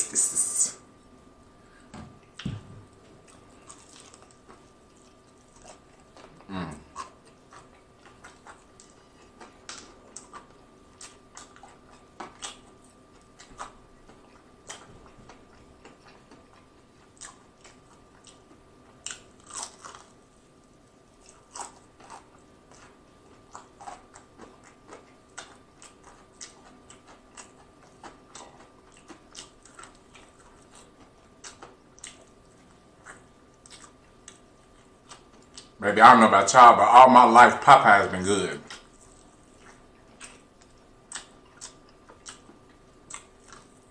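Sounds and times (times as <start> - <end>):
quiet chewing: 1.4 - 35.8, 38.6 - 43.9
crunching fried chicken: 3.2 - 20.4, 21.1 - 35.8, 36.5 - 43.9.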